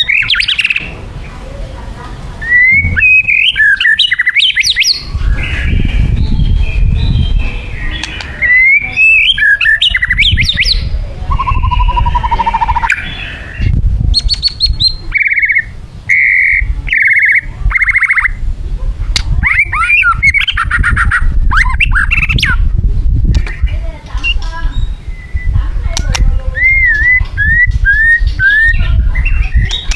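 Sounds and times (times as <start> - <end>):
bird singing varied song: 0.0 - 1.8, 2.4 - 18.4, 19.1 - 22.7, 23.3 - 29.9.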